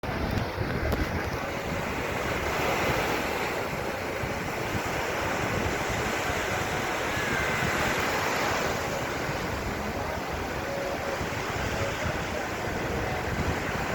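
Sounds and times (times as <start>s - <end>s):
waves breaking on beach: 0.0s - 13.9s
wind buffeting microphone: 0.0s - 13.9s.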